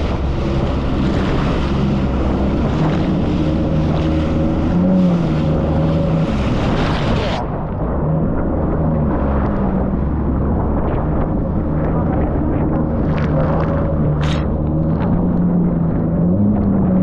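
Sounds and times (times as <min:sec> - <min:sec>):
jet ski engine running: 0:00.0 - 0:17.0
wind on microphone: 0:00.0 - 0:17.0.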